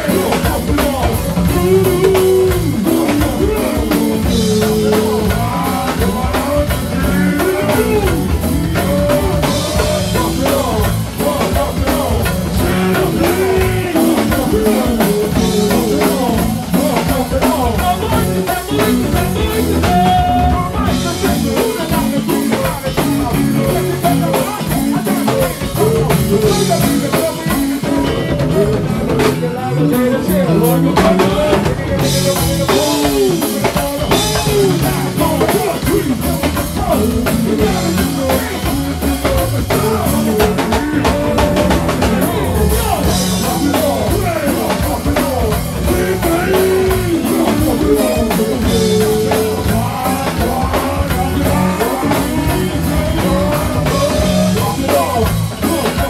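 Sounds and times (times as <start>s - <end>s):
congas: 0.0s - 56.0s
drum kit: 0.0s - 56.0s
electric guitar: 0.0s - 56.0s
vocalists singing: 0.0s - 56.0s.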